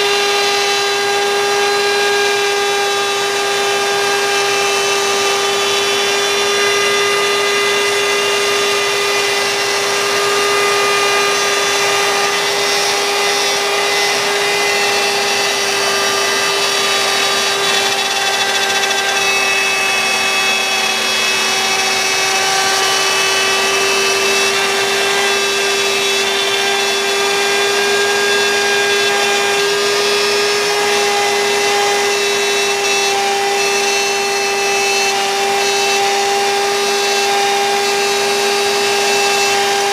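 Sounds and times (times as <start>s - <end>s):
bit cutting wood: 0.0s - 39.9s
router spindle whine: 0.0s - 39.9s.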